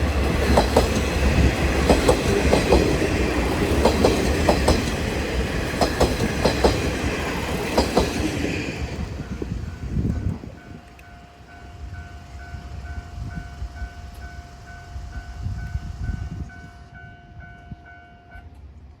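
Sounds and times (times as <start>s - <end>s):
diesel railcar rumble: 0.0s - 19.0s.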